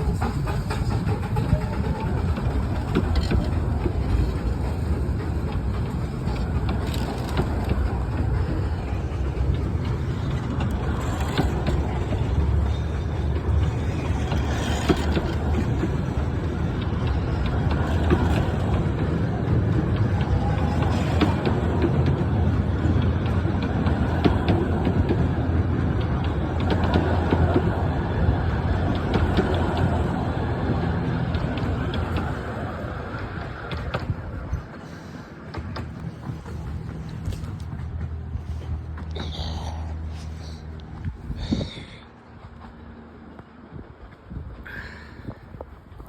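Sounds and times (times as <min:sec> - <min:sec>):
wheel clicks on track: 0:00.0 - 0:39.2
steam train rumbling: 0:00.0 - 0:46.0.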